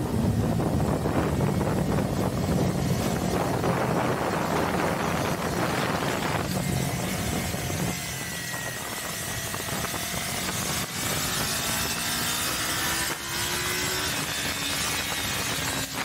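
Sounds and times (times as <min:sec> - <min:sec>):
motorcycle engine at speed: 0:00.0 - 0:16.0
wind rush on microphone: 0:00.0 - 0:16.0.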